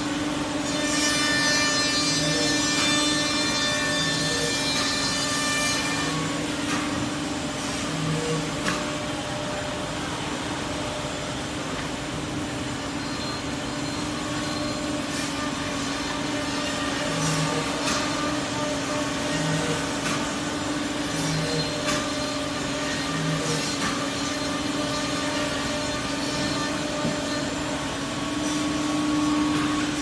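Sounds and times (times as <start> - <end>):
high machine whine: 0.0 - 30.0.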